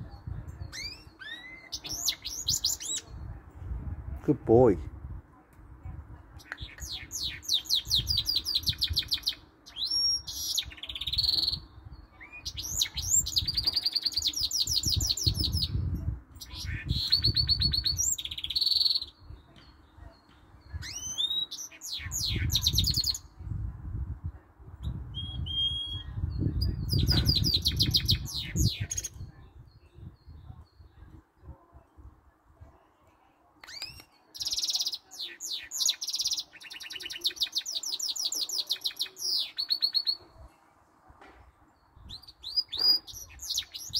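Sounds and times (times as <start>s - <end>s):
bird singing trills: 0.2s - 3.2s, 6.4s - 23.3s, 24.8s - 31.2s, 33.6s - 40.4s, 41.7s - 43.9s.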